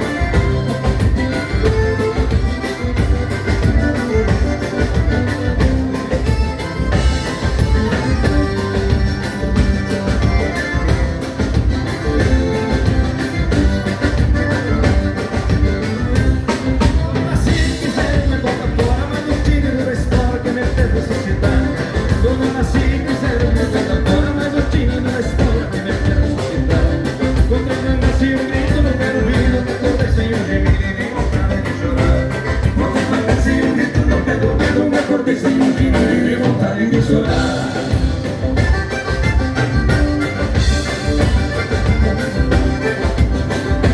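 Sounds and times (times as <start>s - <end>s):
live band playing dance music: 0.0s - 43.9s.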